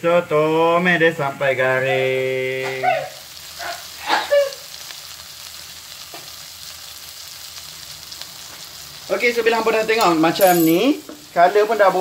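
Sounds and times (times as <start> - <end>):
paste sizzling in oil: 1.6 - 12.0.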